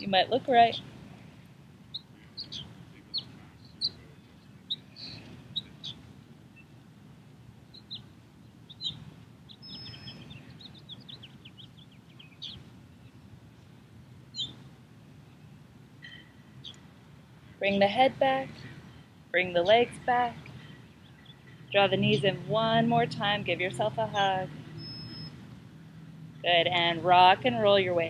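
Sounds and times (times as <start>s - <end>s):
low outdoor background hum: 0.0s - 28.0s
small birds chirping: 1.9s - 6.8s, 7.7s - 17.6s, 18.5s - 23.4s, 24.0s - 27.4s.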